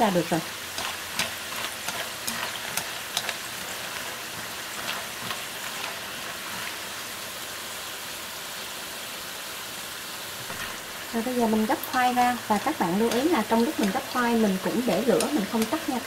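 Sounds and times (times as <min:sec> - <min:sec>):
potatoes sizzling in hot oil: 0:00.0 - 0:16.0
oil popping and crackling: 0:00.2 - 0:07.7, 0:10.4 - 0:16.0.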